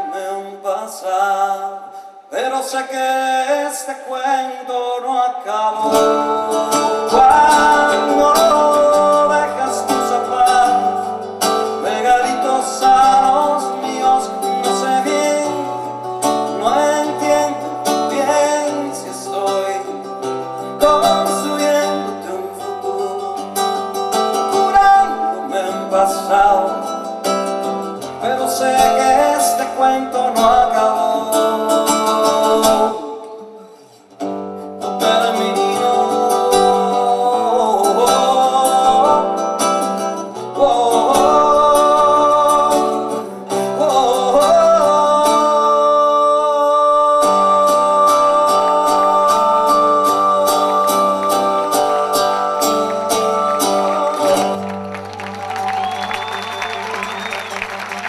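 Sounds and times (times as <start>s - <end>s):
person singing: 0.0s - 58.0s
song with acoustic guitar: 0.0s - 58.0s.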